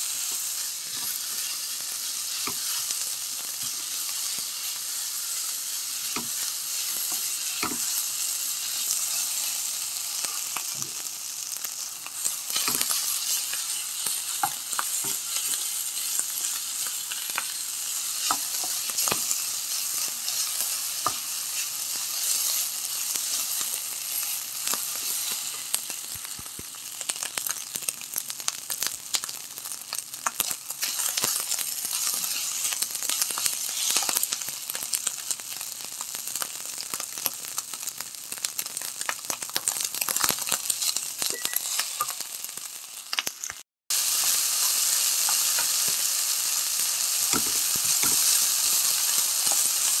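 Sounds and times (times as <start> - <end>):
crackling sizzling hiss: 0.0 - 50.0.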